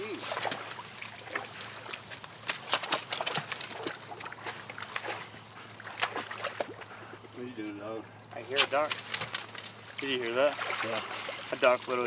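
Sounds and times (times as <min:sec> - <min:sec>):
dry grass rustling: 0:00.0 - 0:06.9, 0:07.5 - 0:12.0.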